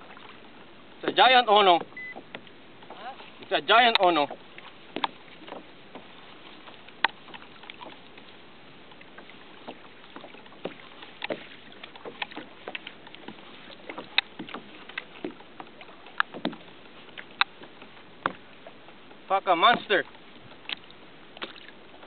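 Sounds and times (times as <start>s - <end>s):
water slapping against plastic hull: 0.0s - 22.0s.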